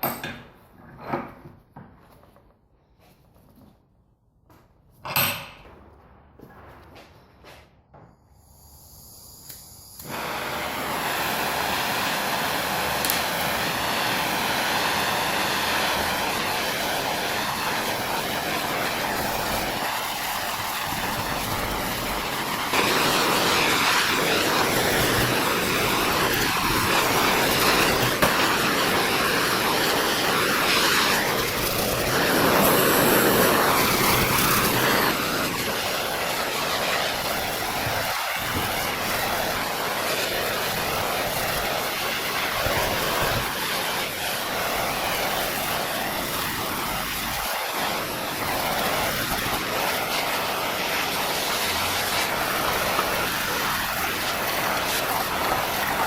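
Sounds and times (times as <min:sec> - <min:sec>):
workshop tool rushing hiss: 0:07.6 - 0:56.0.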